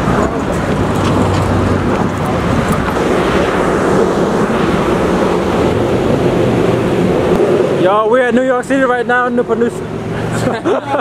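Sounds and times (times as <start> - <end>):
street traffic hum: 0.0 - 11.0
wind on microphone: 0.0 - 11.0.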